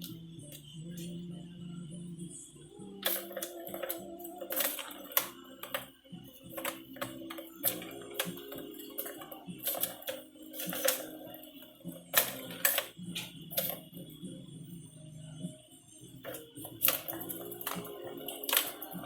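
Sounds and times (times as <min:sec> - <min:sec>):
background music low notes: 0:00.0 - 0:19.0.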